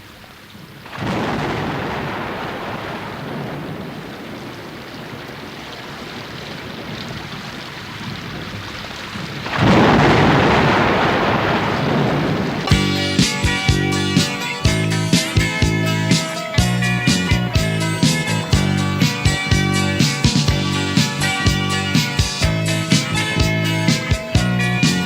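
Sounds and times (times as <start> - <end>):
rain: 0.0 - 25.0
thunder rolling: 0.9 - 25.0.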